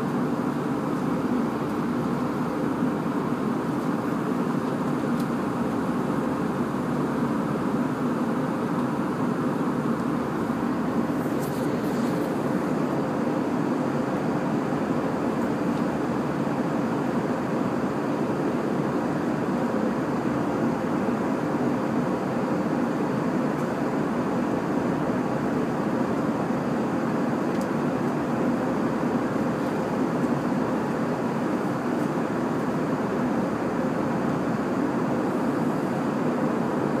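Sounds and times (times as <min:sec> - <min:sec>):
faint steady hum: 0:00.0 - 0:37.0
jet engines and airflow rushing: 0:00.0 - 0:37.0.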